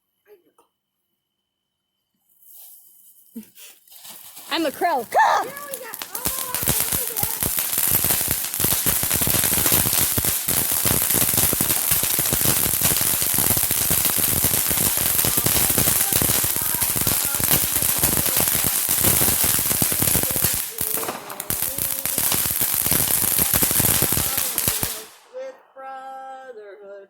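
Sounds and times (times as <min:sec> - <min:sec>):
fireworks crackling: 0:02.3 - 0:26.6.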